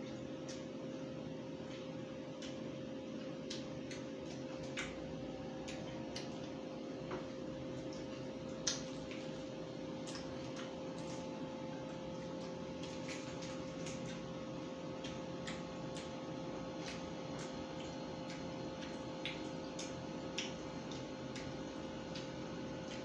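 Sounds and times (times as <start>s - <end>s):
background hum: 0.0s - 23.0s
chewing and lip-smacking: 0.0s - 23.0s.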